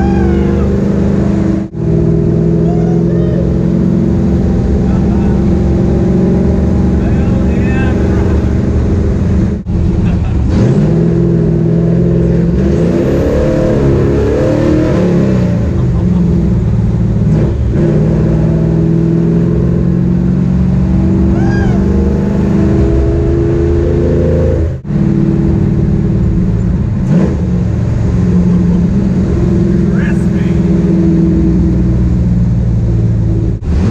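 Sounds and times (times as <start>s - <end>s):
truck engine revving: 0.0s - 33.9s.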